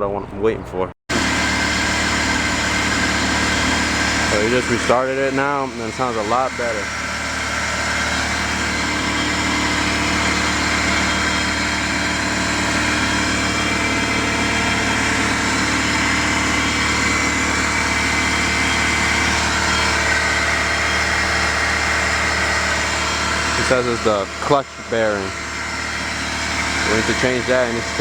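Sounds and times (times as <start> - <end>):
car engine idling: 1.1 - 28.0.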